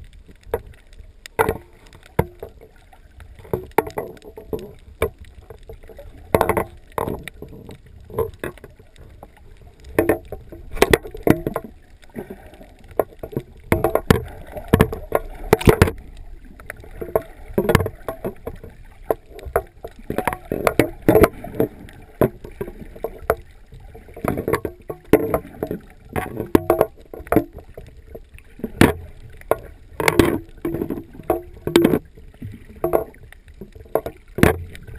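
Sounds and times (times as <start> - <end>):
muffled rumble of water: 0.0 - 34.9
underwater bubbling: 0.0 - 34.9.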